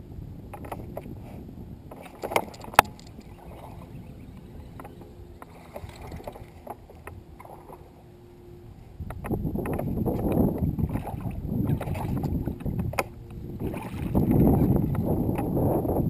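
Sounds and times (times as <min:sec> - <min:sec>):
water lapping against boat hull: 0:00.5 - 0:16.0.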